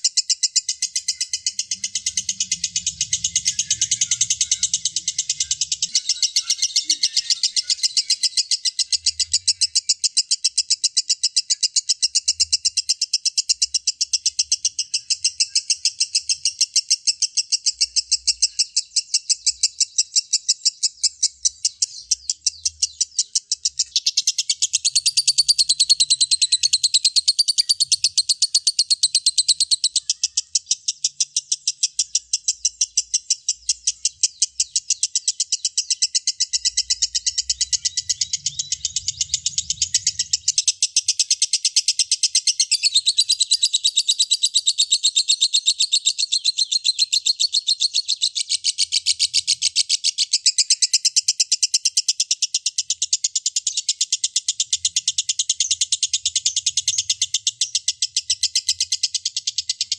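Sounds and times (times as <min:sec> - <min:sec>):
bird chirping rapidly: 0:00.0 - 0:59.9.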